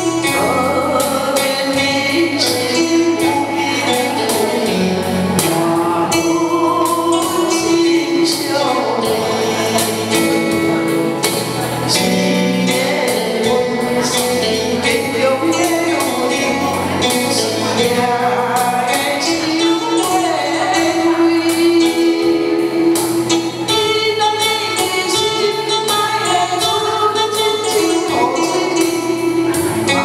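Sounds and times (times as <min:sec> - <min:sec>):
electronic keyboard with beat: 0:00.0 - 0:30.0
woman singing into microphone: 0:00.0 - 0:30.0.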